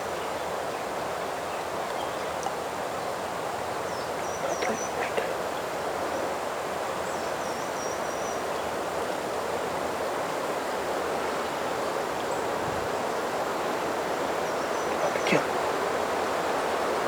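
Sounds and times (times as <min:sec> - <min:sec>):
rushing woodland background noise: 0:00.0 - 0:17.0.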